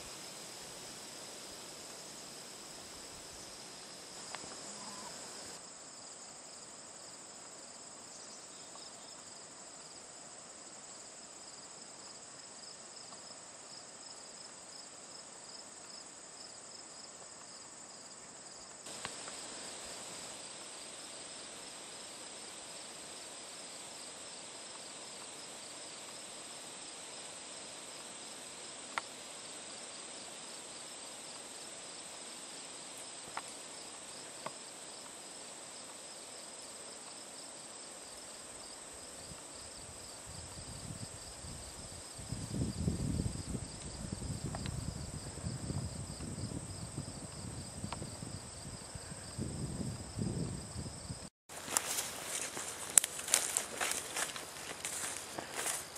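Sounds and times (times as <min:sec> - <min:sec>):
crickets chirping: 0:00.0 - 0:55.9.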